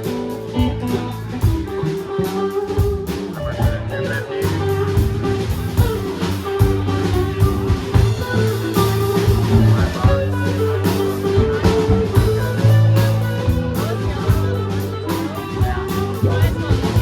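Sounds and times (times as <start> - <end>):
bass line: 0.0 - 17.0
drum kit: 0.0 - 17.0
electric guitar: 0.0 - 17.0.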